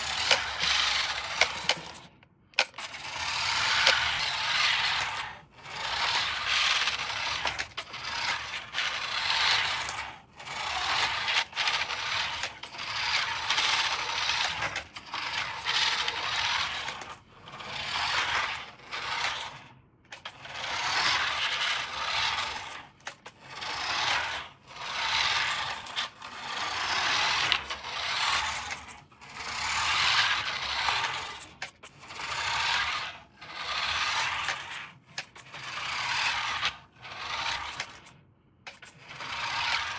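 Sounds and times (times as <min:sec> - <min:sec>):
toy packaging scraping and rattling: 0:00.0 - 0:05.2, 0:05.8 - 0:28.9, 0:29.5 - 0:39.9.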